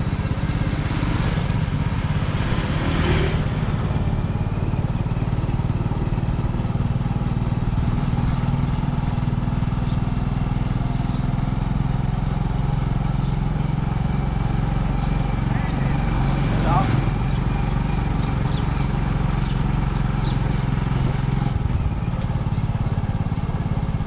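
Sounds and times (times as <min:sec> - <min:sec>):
small motorbike engine running: 0:00.0 - 0:24.0.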